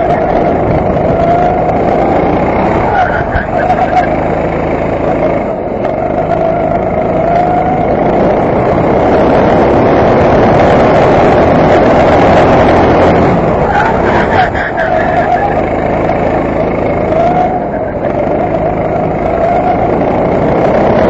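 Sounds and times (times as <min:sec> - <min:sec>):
go-kart engine revving: 0:00.0 - 0:21.0.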